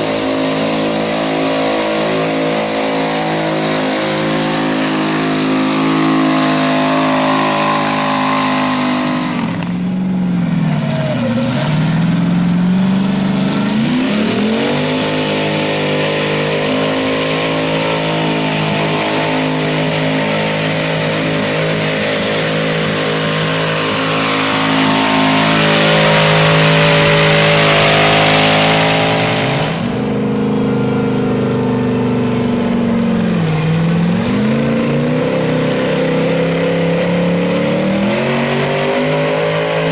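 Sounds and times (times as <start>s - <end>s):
garden tractor engine revving high: 0.0s - 39.9s.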